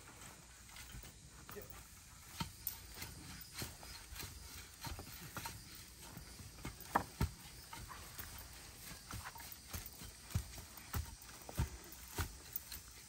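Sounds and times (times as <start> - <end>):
soil being tamped down: 0.0 - 13.0.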